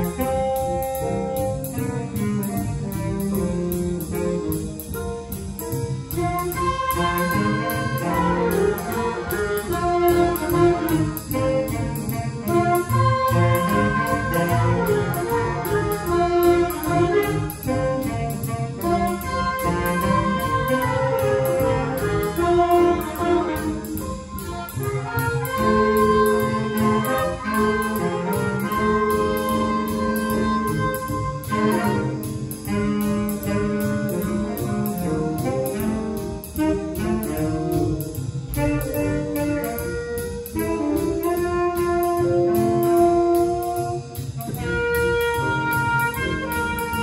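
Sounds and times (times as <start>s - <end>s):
cymbal ticking: 0.0s - 47.0s
horns holding chords: 0.0s - 47.0s
jazz band playing: 0.0s - 47.0s.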